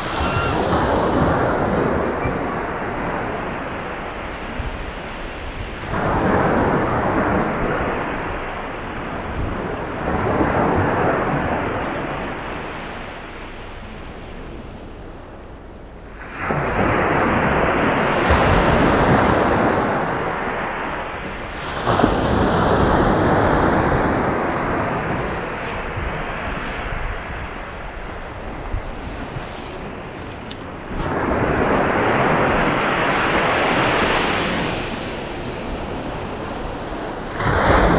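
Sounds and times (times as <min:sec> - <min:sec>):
waves breaking on a beach: 0:00.0 - 0:37.9
wind rumble on microphone: 0:00.0 - 0:37.9.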